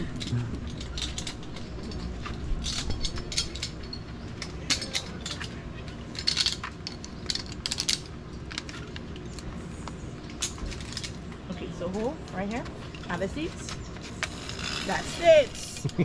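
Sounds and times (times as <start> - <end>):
metal carabiners clinking: 0.0 - 9.5, 10.2 - 16.0.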